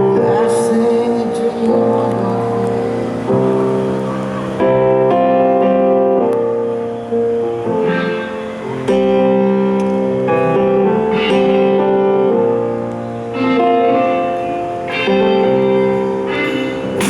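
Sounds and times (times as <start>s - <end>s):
keyboard playing held chords: 0.0s - 17.0s.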